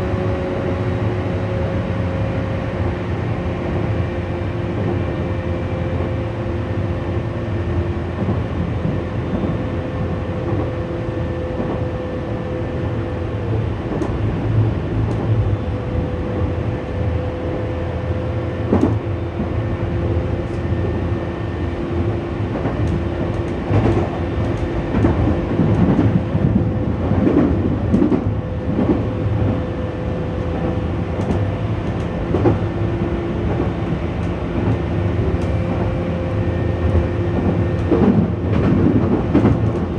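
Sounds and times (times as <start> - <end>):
train motor hum: 0.0 - 39.9
train rumble: 0.0 - 39.9.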